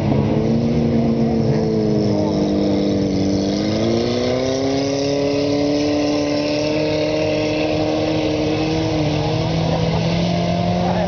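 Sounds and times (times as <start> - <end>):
lower race car engine: 0.0 - 11.0
race car engine revving high: 0.0 - 11.0.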